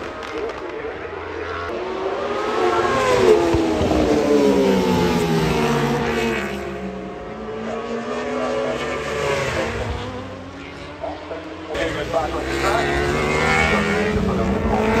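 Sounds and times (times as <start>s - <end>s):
racing motorbikes passing: 0.0s - 15.0s.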